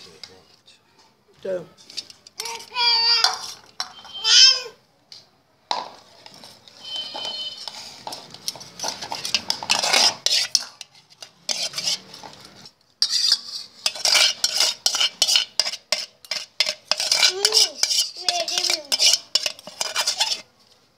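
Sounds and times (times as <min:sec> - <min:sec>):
metal spoon scraping steel bowl: 0:01.8 - 0:04.4, 0:06.2 - 0:20.6.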